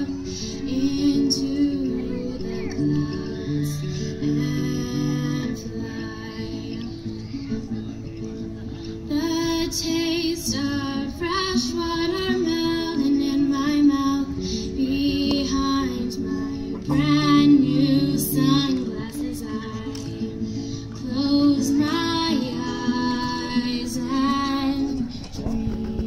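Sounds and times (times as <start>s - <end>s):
woman singing with vibrato: 0.0s - 7.2s, 9.1s - 26.0s
acoustic guitar: 0.0s - 26.0s.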